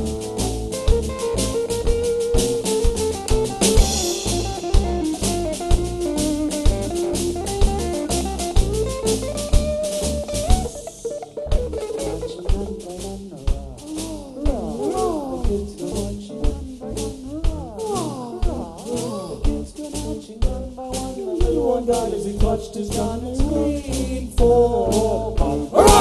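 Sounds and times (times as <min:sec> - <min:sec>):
cymbals: 0:00.0 - 0:20.3, 0:24.9 - 0:26.0
drum hits: 0:00.0 - 0:23.6, 0:25.4 - 0:26.0
plucked guitar melody: 0:00.0 - 0:23.7.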